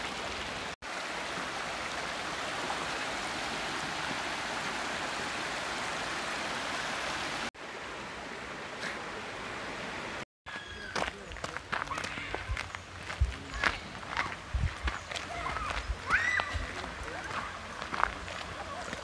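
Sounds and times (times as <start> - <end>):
creek running over rocks: 0.0 - 19.0.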